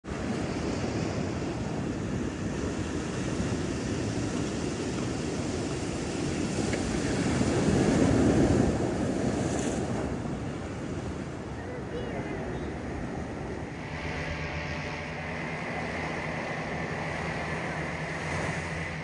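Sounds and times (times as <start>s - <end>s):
surf breaking on rocky shore: 0.1s - 19.0s.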